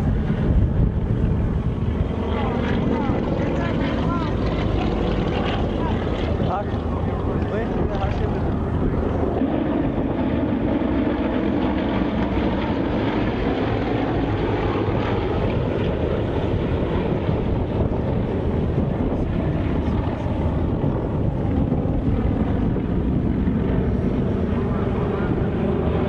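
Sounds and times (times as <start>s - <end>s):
aircraft engine noise: 0.0s - 26.0s
wind buffeting microphone: 0.0s - 26.0s.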